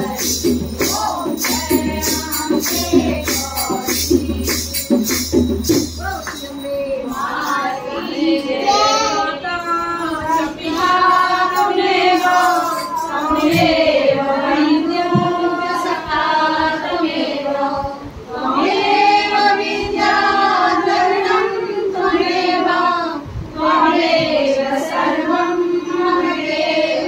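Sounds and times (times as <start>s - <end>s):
women singing devotional song: 0.0s - 27.0s.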